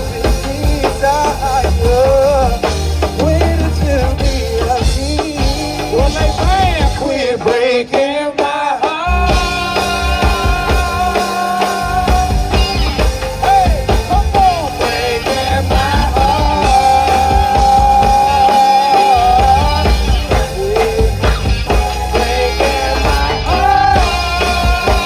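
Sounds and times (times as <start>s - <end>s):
lead guitar bent notes: 0.0s - 25.0s
rock band playing live: 0.0s - 25.0s.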